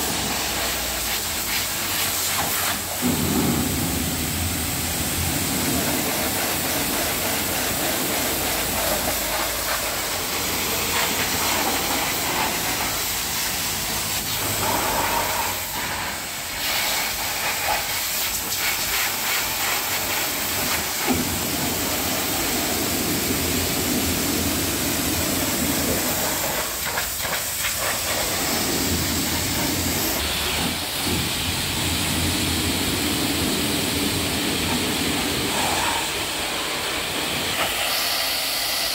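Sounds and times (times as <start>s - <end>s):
pressure washer water jet hissing: 0.0s - 38.9s.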